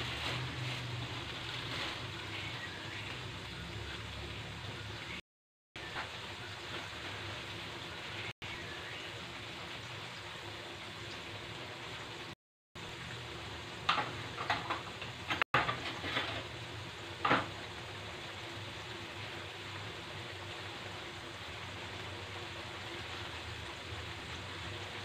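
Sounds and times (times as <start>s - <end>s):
sauce sizzling in a wok: 0.0s - 5.2s, 5.8s - 25.0s.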